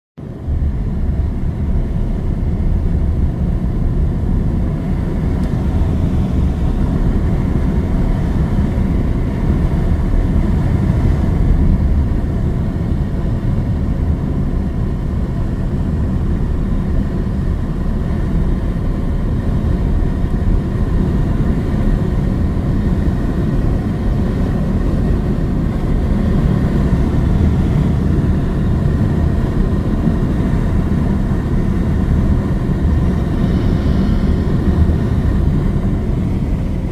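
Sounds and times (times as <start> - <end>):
wind noise: 0.2 - 36.9.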